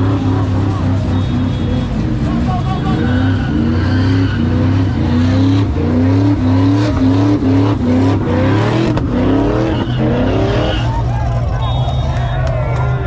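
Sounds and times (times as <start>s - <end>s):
car engine revving hard: 0.0s - 11.1s.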